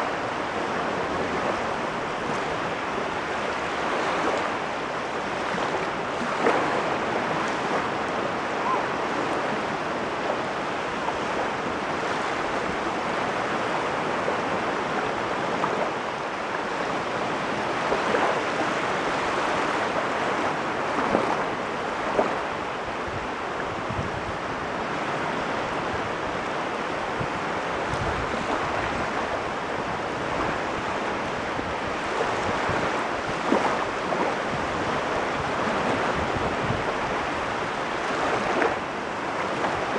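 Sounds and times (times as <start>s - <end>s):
waves washing ashore: 0.0s - 39.9s.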